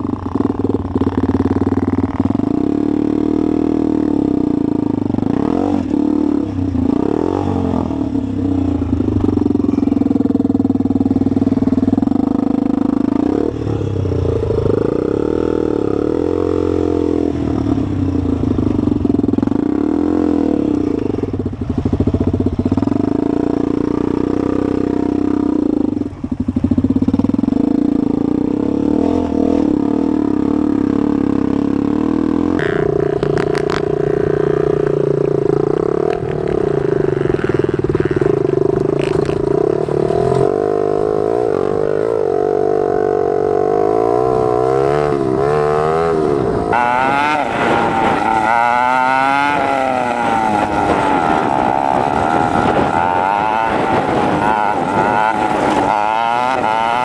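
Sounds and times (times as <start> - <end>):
dirt bike engine revving: 0.0 - 25.9, 26.6 - 57.0.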